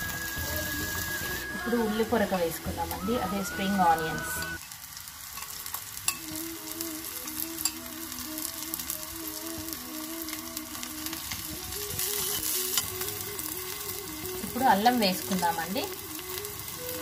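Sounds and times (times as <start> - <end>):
faint tune: 0.0 - 4.6, 6.1 - 17.0
vegetables sizzling in oil: 0.0 - 17.0.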